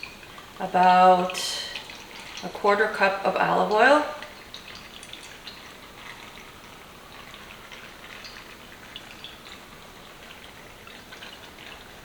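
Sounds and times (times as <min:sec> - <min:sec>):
oil pattering and dripping: 0:00.0 - 0:12.0.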